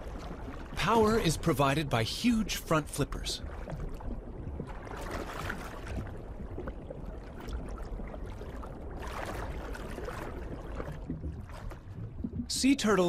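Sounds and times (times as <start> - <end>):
underwater rushing water: 0.0 - 13.0.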